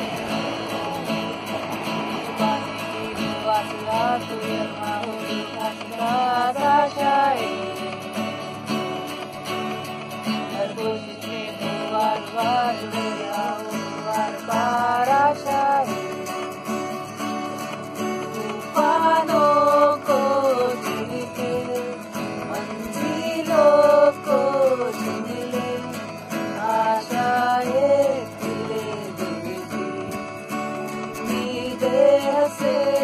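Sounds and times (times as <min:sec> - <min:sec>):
man singing: 0:00.0 - 0:08.0, 0:10.4 - 0:16.2, 0:18.6 - 0:33.0
acoustic guitars strummed: 0:00.0 - 0:33.0.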